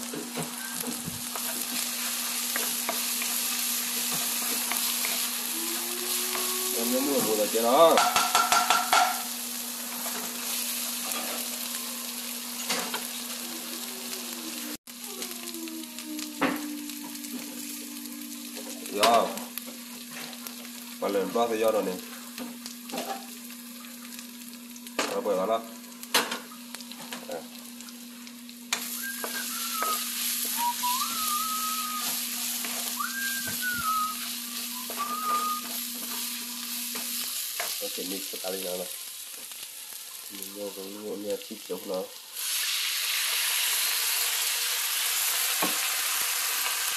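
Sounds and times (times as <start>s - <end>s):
aromatics sizzling in oil: 0.0s - 46.9s.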